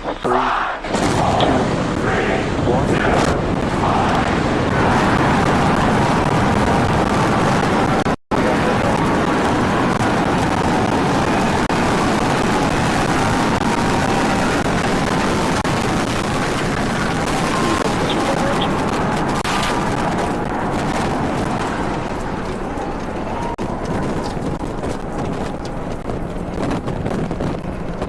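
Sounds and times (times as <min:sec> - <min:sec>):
rocket engines roaring: 0:00.0 - 0:28.0.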